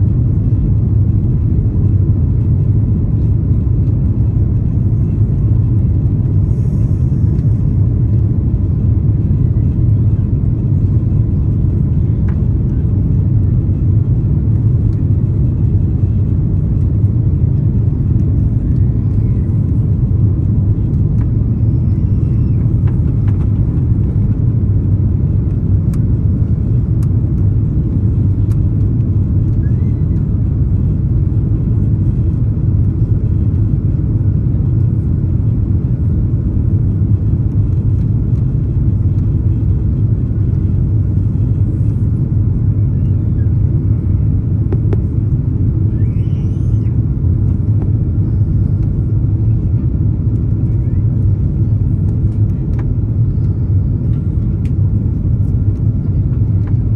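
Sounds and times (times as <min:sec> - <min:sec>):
airliner engine rumble in cabin: 0:00.0 - 0:56.9.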